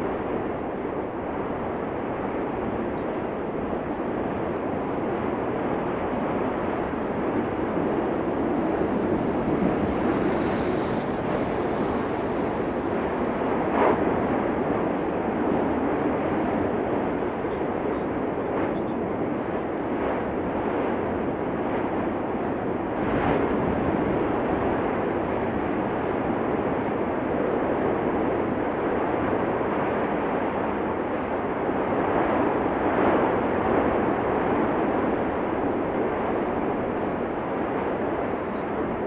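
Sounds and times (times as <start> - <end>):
volcanic eruption roaring: 0.0 - 39.0.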